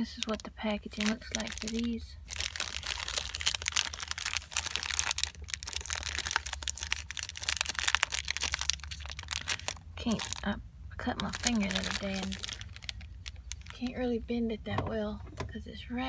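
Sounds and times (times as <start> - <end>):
plastic wrapper crinkling: 0.0 - 14.1.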